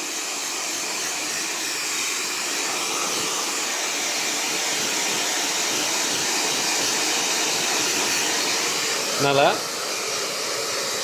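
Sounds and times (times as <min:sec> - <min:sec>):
electric blow dryer running: 0:00.0 - 0:11.0.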